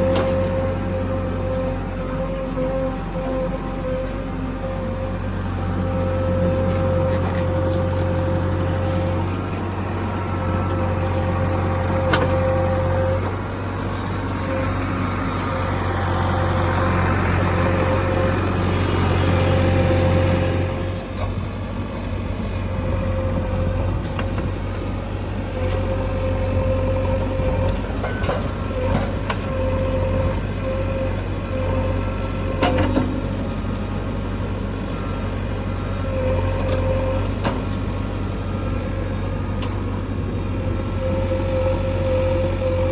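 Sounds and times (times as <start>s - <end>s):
heavy diesel engines running: 0.0s - 42.9s.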